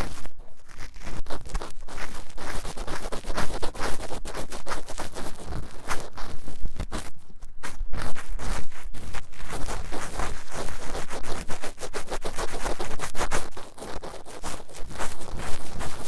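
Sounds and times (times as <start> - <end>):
scratching at microphone: 0.0 - 16.0.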